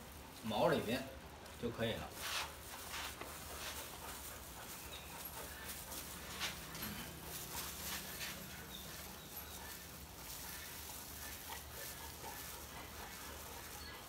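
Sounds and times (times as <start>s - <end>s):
gloved hands rustling fur: 0.0s - 14.0s
dog panting: 2.4s - 14.0s.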